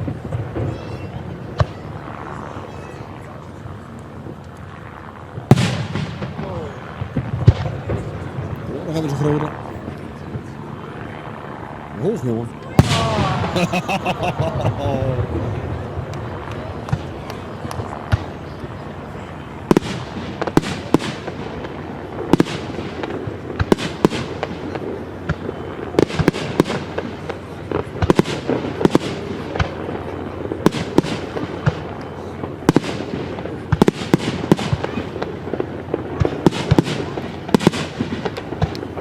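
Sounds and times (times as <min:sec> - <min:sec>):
fireworks bursting with sharp bangs: 0:00.0 - 0:02.4, 0:05.4 - 0:09.5, 0:12.7 - 0:18.5, 0:19.6 - 0:39.0.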